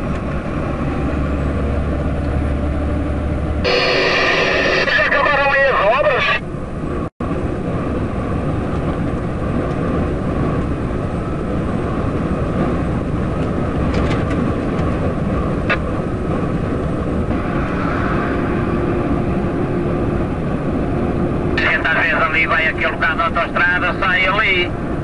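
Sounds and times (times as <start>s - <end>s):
truck engine tyre and wind noise: 0.0s - 25.0s.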